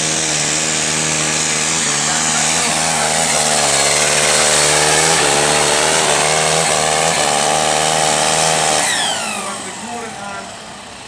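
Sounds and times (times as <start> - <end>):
tractor diesel engine at full throttle: 0.0 - 11.0.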